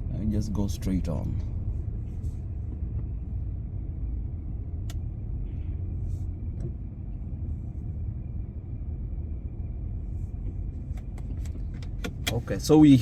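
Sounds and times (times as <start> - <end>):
car cabin low rumble: 0.0 - 13.0.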